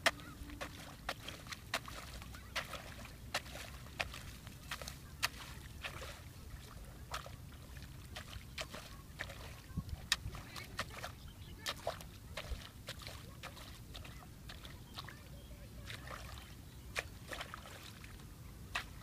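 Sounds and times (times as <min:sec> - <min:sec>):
hoe striking wet mud: 0:00.0 - 0:15.2, 0:15.8 - 0:19.0
water splashing: 0:00.0 - 0:19.0.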